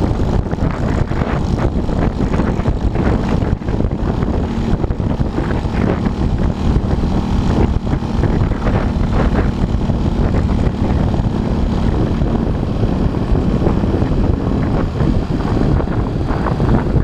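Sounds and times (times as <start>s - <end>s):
motorcycle engine running: 0.0s - 17.0s
road noise: 0.0s - 17.0s
wind noise: 0.0s - 17.0s.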